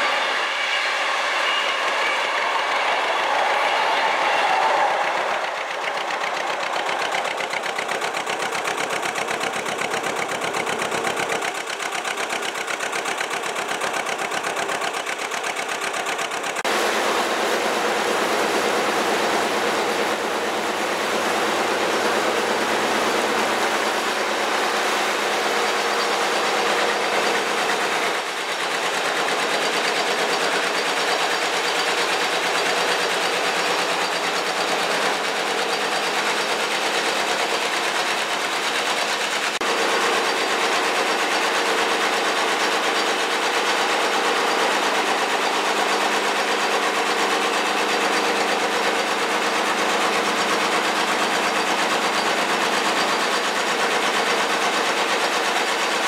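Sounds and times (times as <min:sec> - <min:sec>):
diesel boat engine running: 0:00.0 - 0:56.0.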